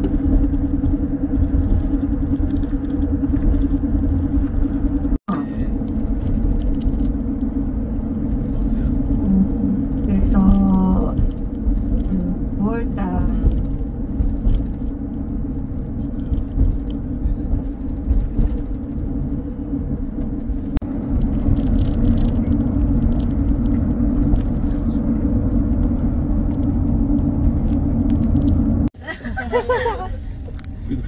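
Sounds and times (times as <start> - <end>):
car cabin road rumble: 0.0 - 31.0.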